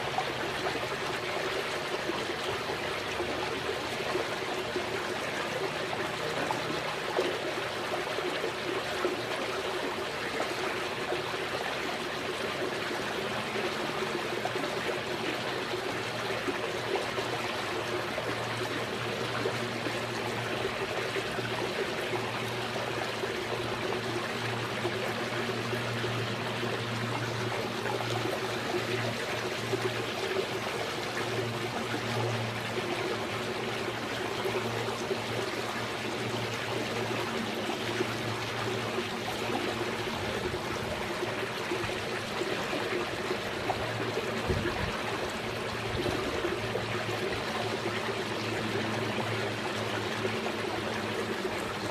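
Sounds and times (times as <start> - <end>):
low steady hum: 0.0 - 51.9
trickling water: 0.0 - 51.9.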